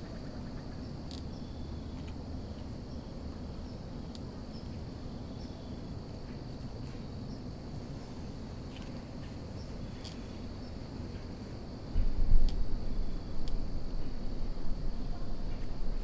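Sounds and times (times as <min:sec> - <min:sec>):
insects trilling: 0:00.0 - 0:16.0
low constant rumble: 0:00.0 - 0:16.0.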